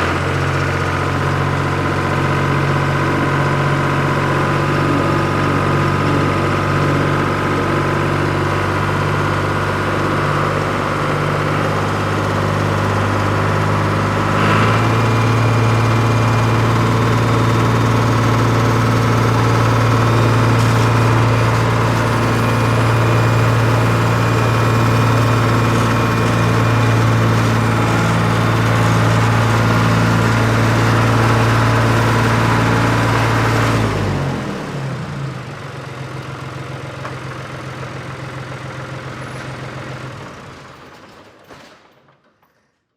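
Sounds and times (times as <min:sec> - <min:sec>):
tractor engine running: 0:00.0 - 0:41.3.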